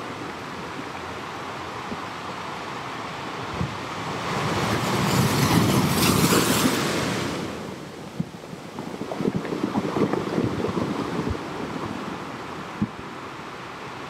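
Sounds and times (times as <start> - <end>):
ocean waves: 0.0 - 14.0.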